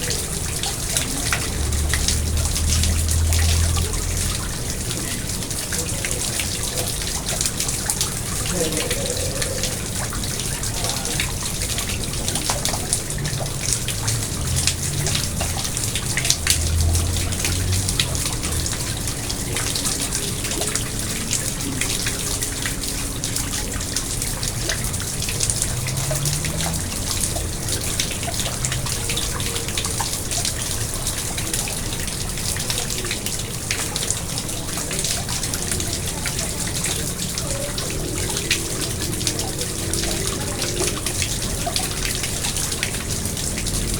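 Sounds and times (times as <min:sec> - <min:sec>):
pond water trickling and splashing: 0:00.0 - 0:43.9
water dripping: 0:00.0 - 0:43.9.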